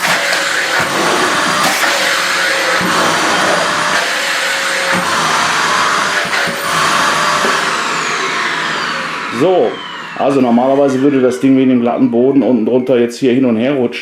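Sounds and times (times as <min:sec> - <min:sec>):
vacuum cleaner rushing hiss: 0:00.0 - 0:11.8
high motor whine: 0:00.0 - 0:13.8.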